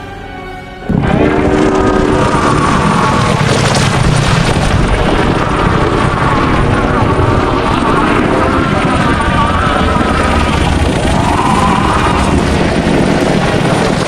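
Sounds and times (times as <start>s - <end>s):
dragon rough noisy rush: 0.0s - 14.0s.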